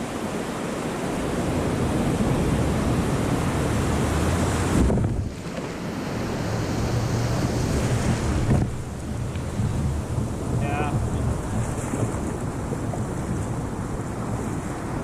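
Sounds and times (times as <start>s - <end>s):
ocean surf rushing: 0.0s - 15.0s
wind buffeting microphone: 0.2s - 15.0s.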